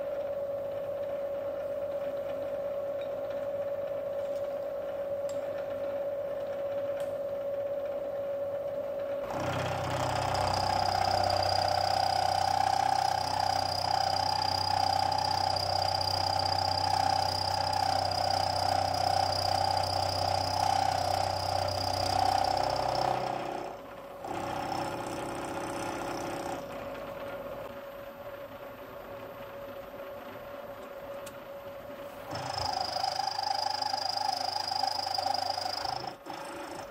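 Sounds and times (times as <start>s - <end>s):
milling machine spindle humming: 0.0s - 36.9s.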